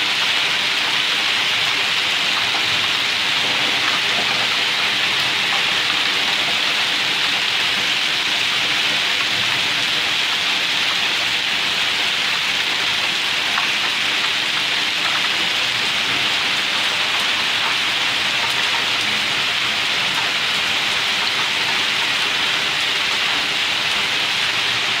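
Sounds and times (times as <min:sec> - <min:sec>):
hail and rain pelting ground: 0:00.0 - 0:25.0.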